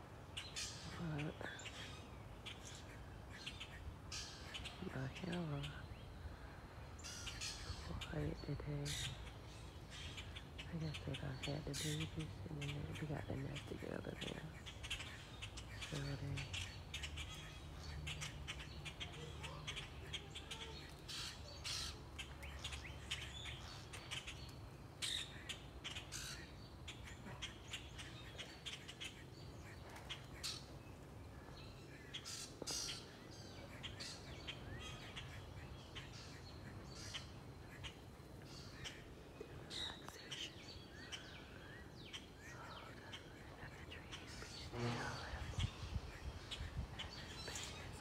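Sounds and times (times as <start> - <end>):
birds chirping: 0.2 - 48.0.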